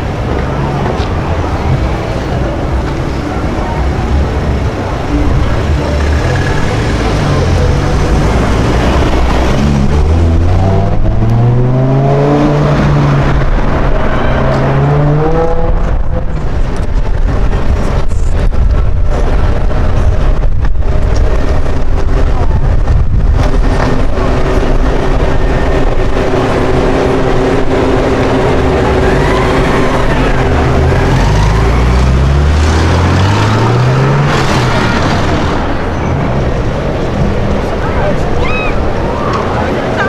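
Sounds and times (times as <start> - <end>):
sports car engine accelerating: 3.0 - 38.2.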